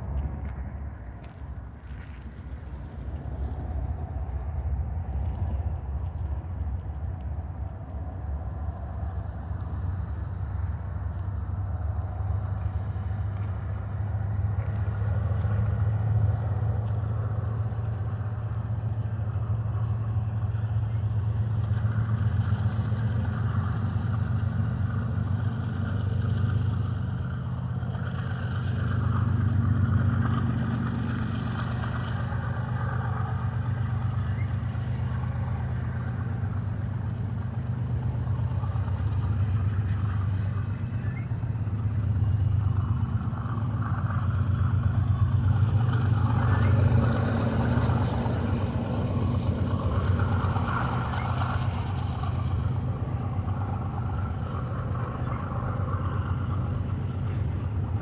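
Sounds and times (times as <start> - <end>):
low train rumble: 0.0 - 58.0
train wheels clattering on rails: 11.0 - 58.0.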